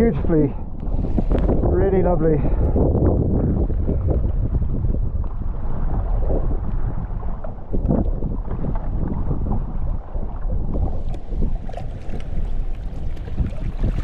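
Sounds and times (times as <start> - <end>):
waves splashing against kayak: 0.0 - 1.8, 2.5 - 14.0
wind buffeting microphone: 0.0 - 14.0.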